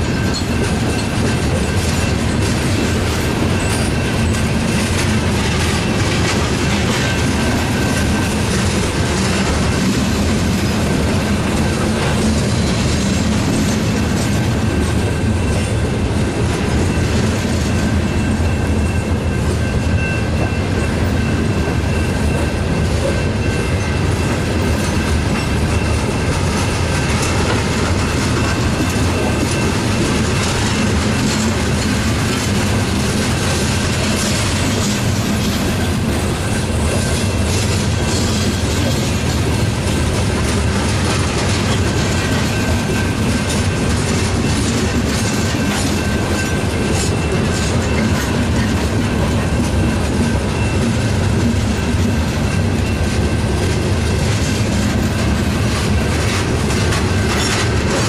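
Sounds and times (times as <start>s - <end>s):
train wheels rumbling on rail: 0.0s - 58.0s
wheels clacking over rail joints: 0.0s - 58.0s.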